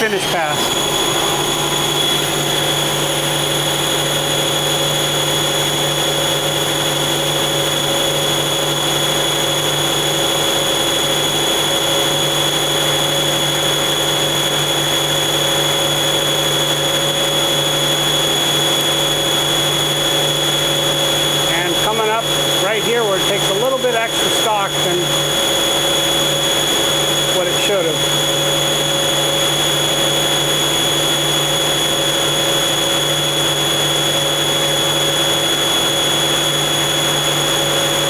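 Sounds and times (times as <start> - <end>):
high spindle whine: 0.0 - 38.0
machine hum: 0.0 - 38.0.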